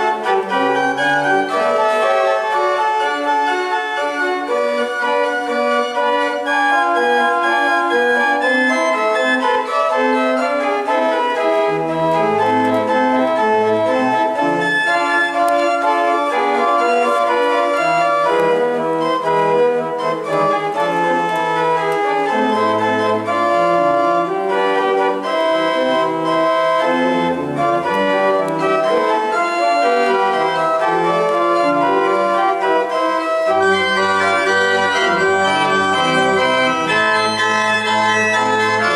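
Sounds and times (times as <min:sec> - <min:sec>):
low organ pedal notes: 0:00.0 - 0:38.9
organ chords: 0:00.0 - 0:38.9.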